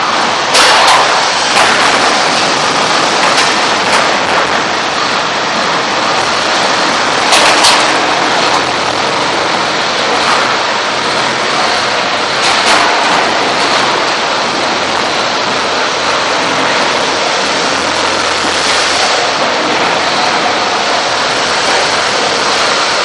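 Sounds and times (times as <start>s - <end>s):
loud rushing noise: 0.0s - 23.0s.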